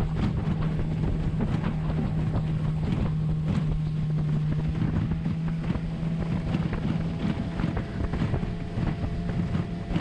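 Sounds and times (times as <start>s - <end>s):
boat motor humming: 0.0s - 10.0s
water knocking against hull: 0.0s - 10.0s
wind buffeting microphone: 0.0s - 10.0s.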